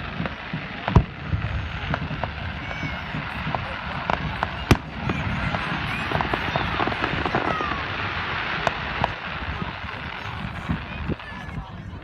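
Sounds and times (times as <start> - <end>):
firework bang: 0.0 - 11.6
crowd chatter: 0.0 - 12.0
fireworks crackling: 0.0 - 12.0.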